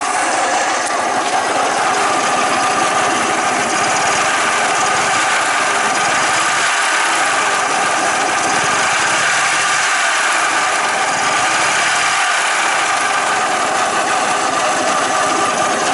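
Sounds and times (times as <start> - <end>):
scooter engine running with rattle: 0.0 - 15.9.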